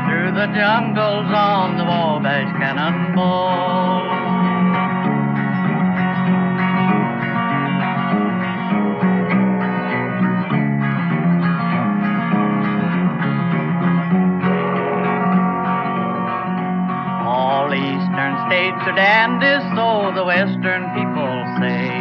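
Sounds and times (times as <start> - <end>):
country guitar instrumental: 0.0 - 22.0.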